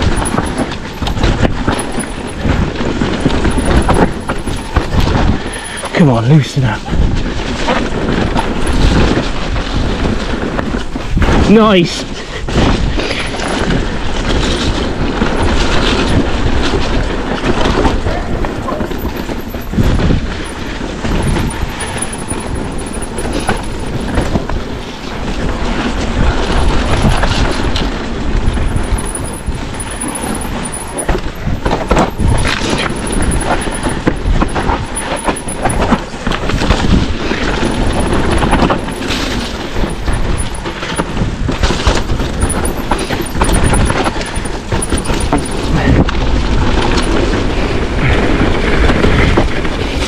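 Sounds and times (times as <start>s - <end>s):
bike knocking and rattling: 0.0s - 50.0s
wind and tyres rumbling: 0.0s - 50.0s.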